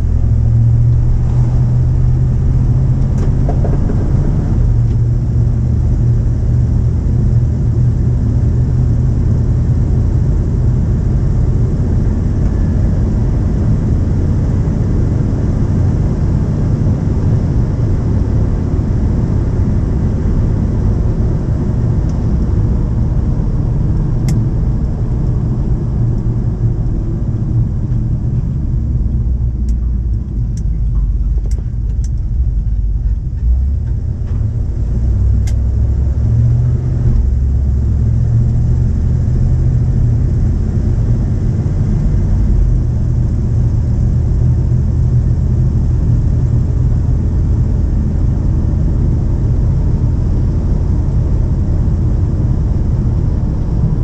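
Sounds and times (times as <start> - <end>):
pickup engine rumble: 0.0 - 54.0
road noise: 0.0 - 54.0.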